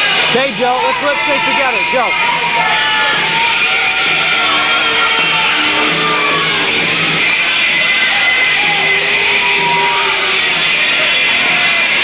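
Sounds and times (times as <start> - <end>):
rock song over pa system: 0.0 - 12.0.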